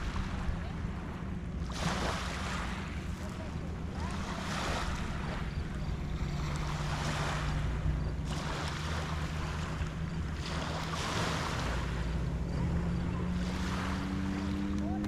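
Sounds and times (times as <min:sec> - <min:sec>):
steady low hum: 0:00.0 - 0:15.0
waves washing onto shell beach: 0:01.7 - 0:15.0.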